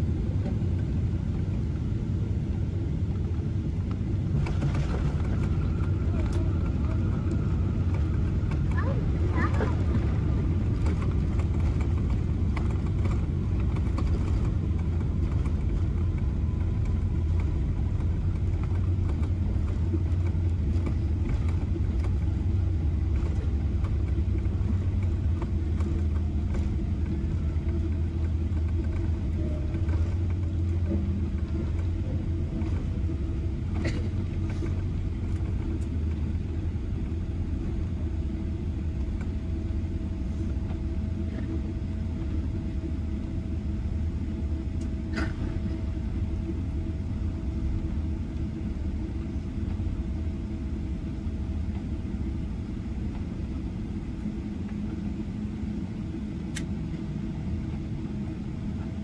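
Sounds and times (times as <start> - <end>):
low rumble of wheels and engines: 0.0 - 59.0.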